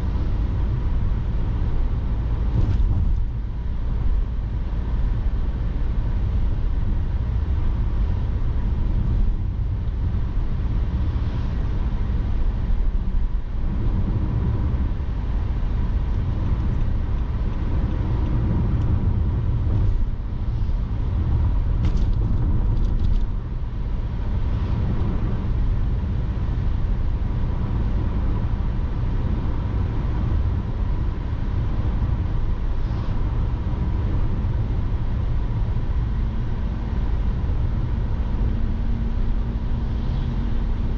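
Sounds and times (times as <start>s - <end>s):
car engine and tyre noise: 0.0s - 40.9s.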